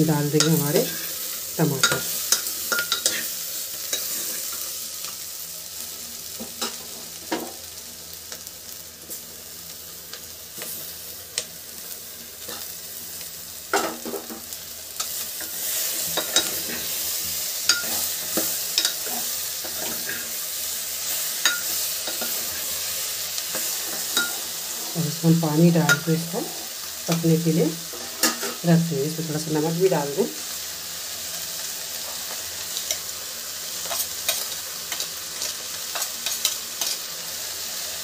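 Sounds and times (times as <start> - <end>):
vegetables sizzling in a pot: 0.0 - 38.0.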